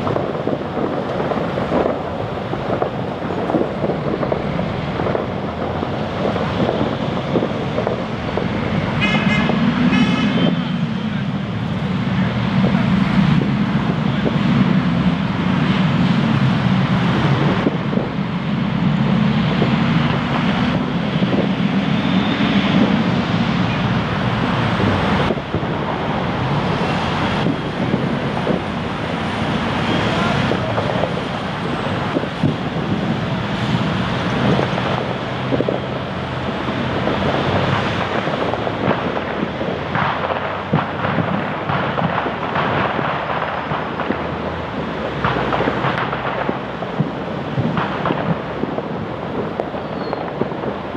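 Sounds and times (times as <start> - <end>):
distant fireworks popping: 0.0 - 50.9
traffic: 0.0 - 50.9
wind: 0.0 - 50.9.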